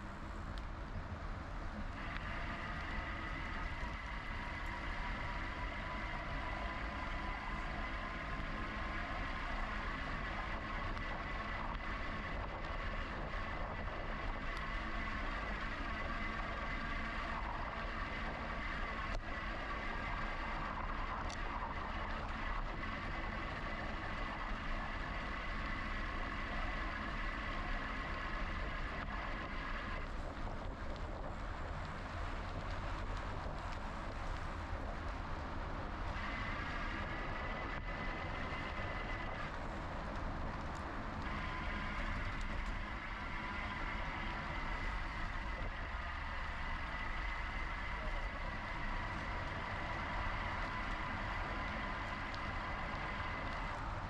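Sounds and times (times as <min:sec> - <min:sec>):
electric bike motor whine: 0:01.7 - 0:54.0.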